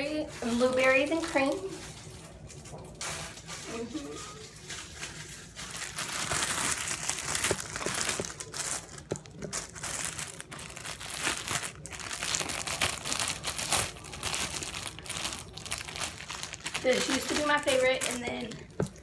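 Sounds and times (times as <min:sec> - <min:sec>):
slime crinkling and crackling: 0:00.0 - 0:19.0.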